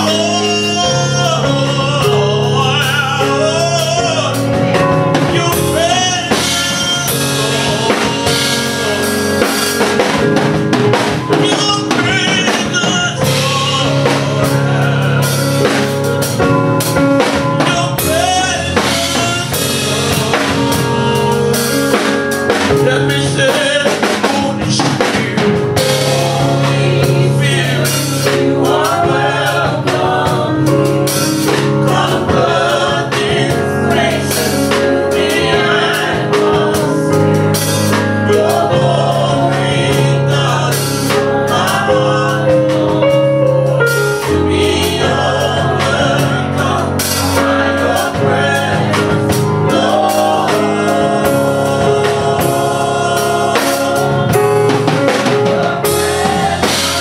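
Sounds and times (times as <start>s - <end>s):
man singing into microphone: 0.0s - 10.0s, 11.3s - 16.0s, 17.5s - 37.5s, 38.2s - 43.6s, 44.2s - 49.0s, 49.7s - 57.0s
drum kit: 0.0s - 57.0s
instrumental accompaniment: 0.0s - 57.0s.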